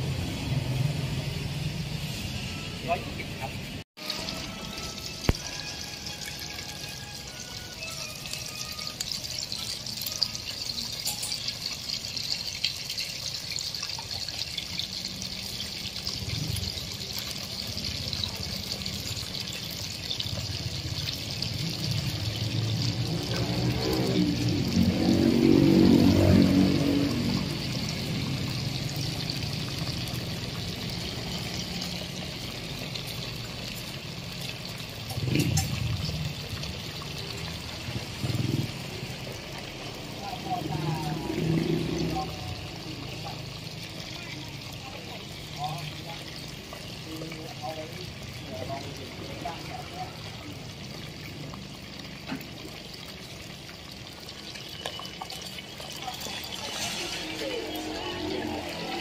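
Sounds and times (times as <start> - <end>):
oil sizzling and bubbling: 0.0 - 59.0.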